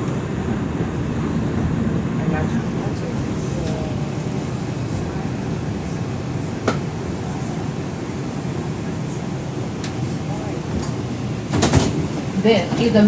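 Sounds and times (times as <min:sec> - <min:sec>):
subway car ventilation hum: 0:00.0 - 0:13.0.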